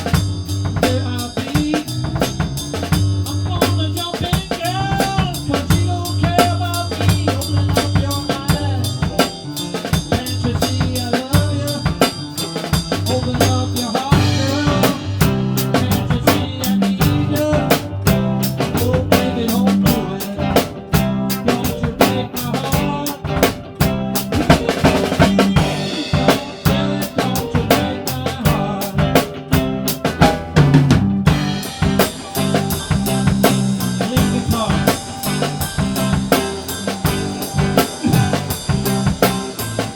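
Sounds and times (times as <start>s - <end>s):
bass drum: 0.0s - 39.9s
bass guitar: 0.0s - 39.9s
rock drum kit: 0.0s - 39.9s.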